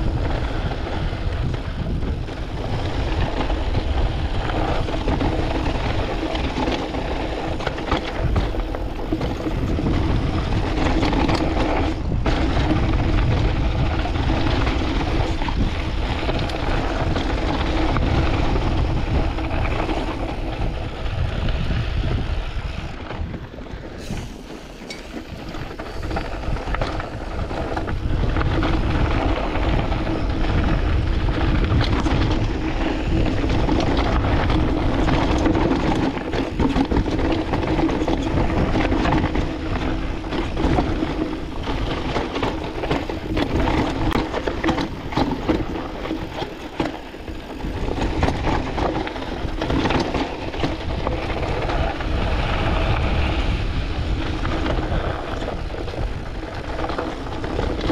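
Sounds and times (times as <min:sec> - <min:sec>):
bike clattering over bumps: 0:00.0 - 0:57.9
wind buffeting microphone: 0:00.0 - 0:57.9.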